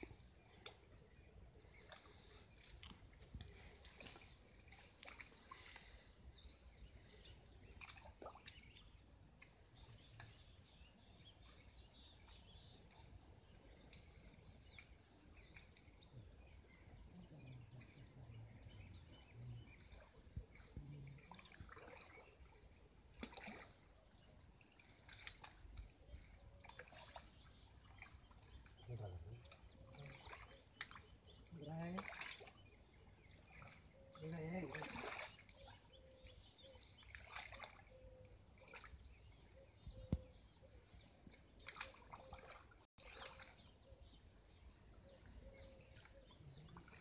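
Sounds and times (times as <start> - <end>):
muddy water splashing and dripping: 0.0 - 47.0.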